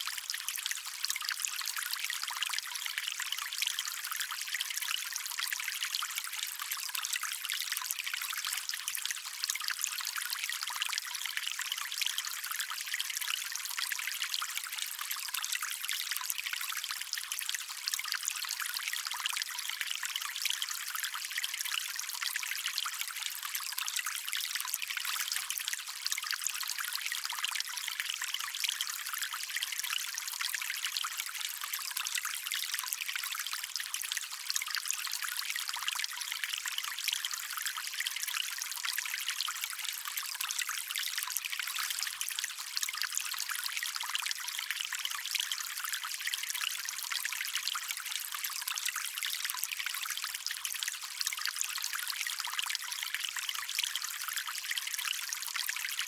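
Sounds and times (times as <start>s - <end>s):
stream trickling over stones: 0.0s - 56.0s.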